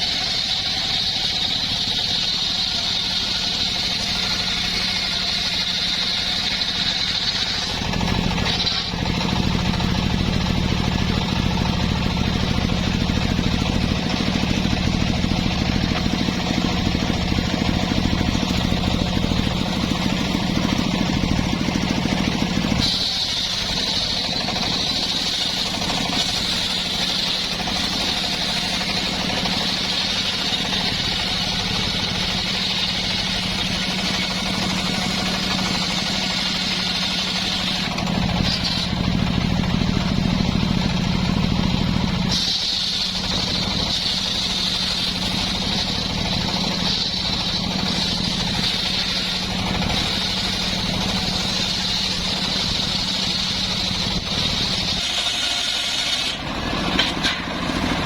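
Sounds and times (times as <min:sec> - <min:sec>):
engine-driven wood saw running: 0:00.0 - 0:58.0.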